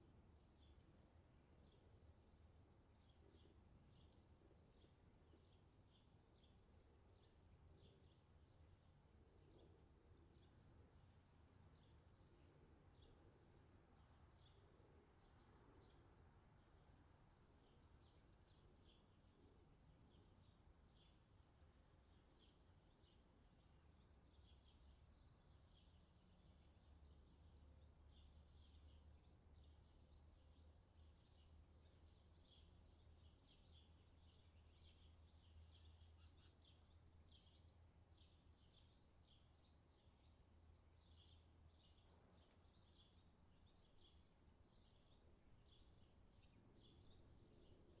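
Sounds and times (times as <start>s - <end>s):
small birds chirping: 0.1s - 48.0s.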